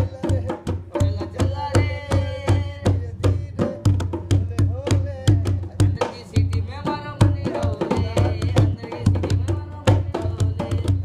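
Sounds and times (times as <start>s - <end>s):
hand drum beating: 0.0s - 11.0s
person singing: 0.0s - 11.0s.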